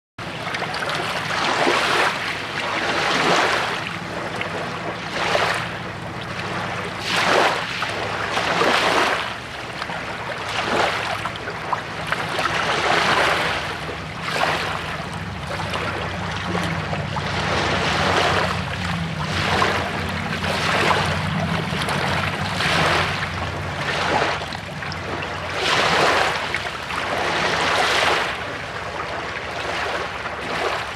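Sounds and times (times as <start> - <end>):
lake waves washing: 0.2 - 30.9
low hum: 3.8 - 29.5.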